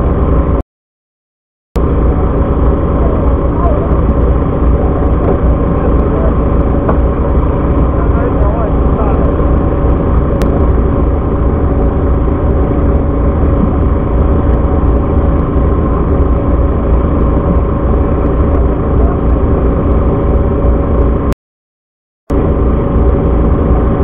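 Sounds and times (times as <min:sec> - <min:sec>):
boat engine droning: 0:00.0 - 0:00.6, 0:01.8 - 0:21.4, 0:22.3 - 0:24.0.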